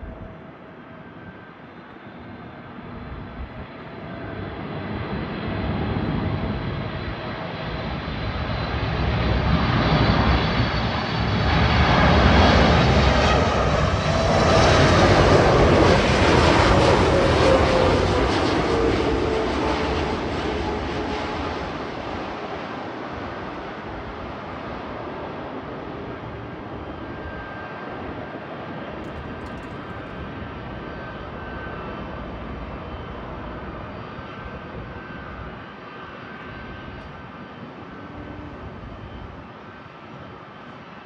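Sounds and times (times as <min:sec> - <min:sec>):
jet engines rushing with high whine: 0:00.0 - 0:41.0.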